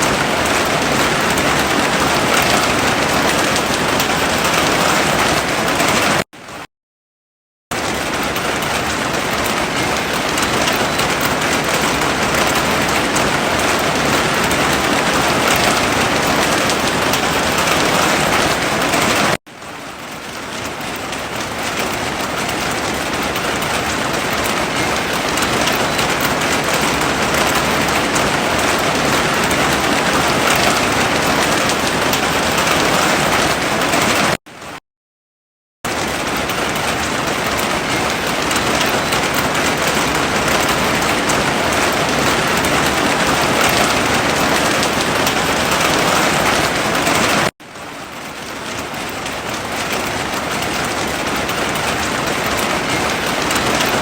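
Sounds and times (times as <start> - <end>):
heavy rain falling: 0.0 - 6.6, 7.7 - 34.8, 35.9 - 54.0.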